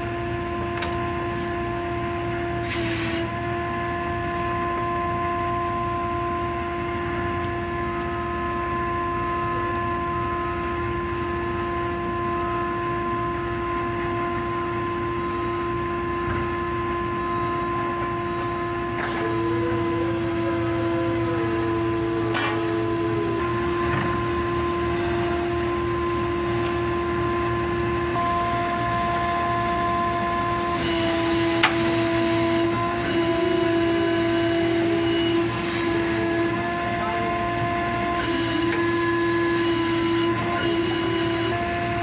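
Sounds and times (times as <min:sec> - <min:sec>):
machinery hum with high whine: 0:00.0 - 0:42.0
rising and falling whine: 0:03.2 - 0:42.0.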